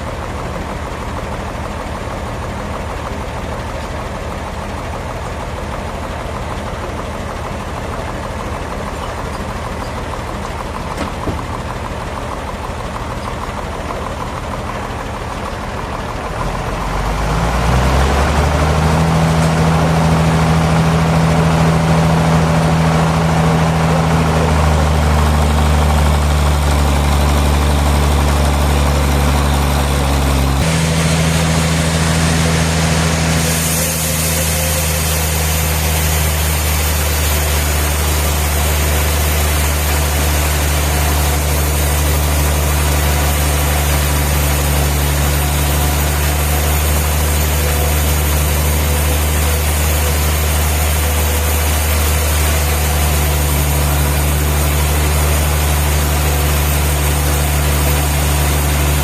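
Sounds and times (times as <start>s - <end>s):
broad mechanical noise: 0.0s - 59.0s
low engine hum: 0.0s - 59.0s.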